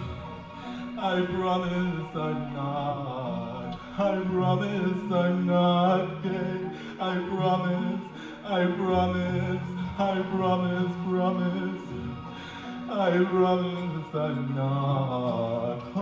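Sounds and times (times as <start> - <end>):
person chanting: 0.0 - 16.0.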